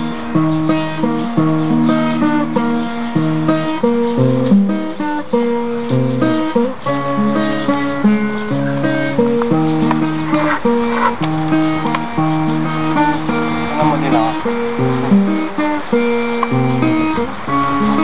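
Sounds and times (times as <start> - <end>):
acoustic guitar chords: 0.0 - 18.0.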